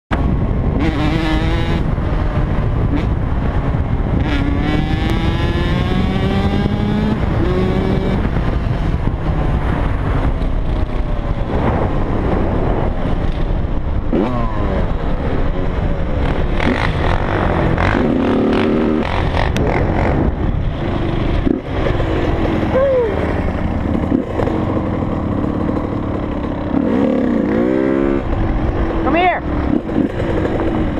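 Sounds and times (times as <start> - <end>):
dirt bike engine accelerating: 0.1 - 30.9
wind buffeting: 0.1 - 30.9.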